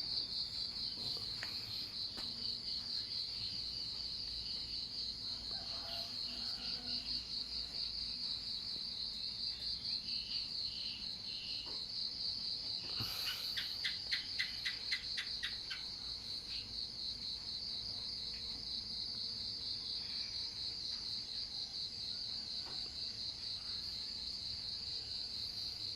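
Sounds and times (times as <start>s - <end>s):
crickets trilling: 0.0s - 25.9s.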